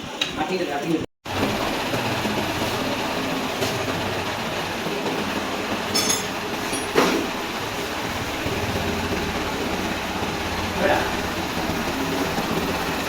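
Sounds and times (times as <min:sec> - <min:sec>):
motorcycle engine running: 0:01.3 - 0:13.0.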